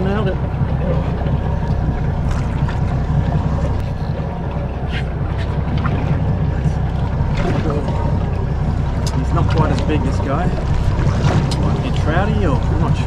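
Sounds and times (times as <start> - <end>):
water around a boat: 0.0 - 13.0
wind: 0.0 - 13.0.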